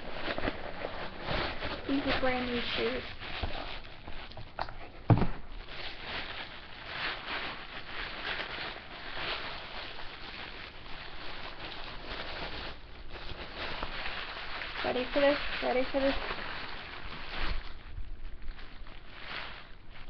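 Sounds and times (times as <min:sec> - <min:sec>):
wrapping paper rustling: 0:00.0 - 0:20.0.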